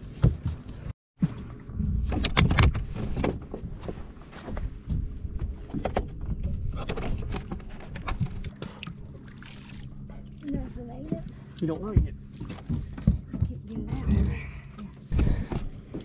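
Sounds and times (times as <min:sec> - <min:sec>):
knocks and clunks on boat: 0:00.1 - 0:16.0.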